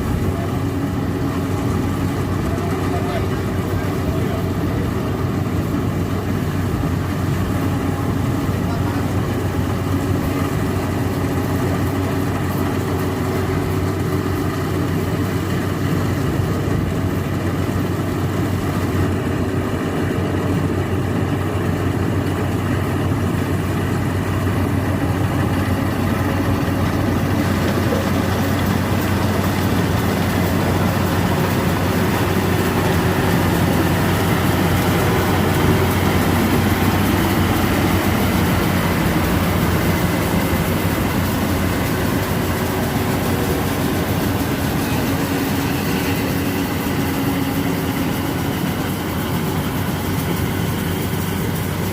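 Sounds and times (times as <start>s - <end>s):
combine harvester diesel engine humming: 0.0s - 51.9s.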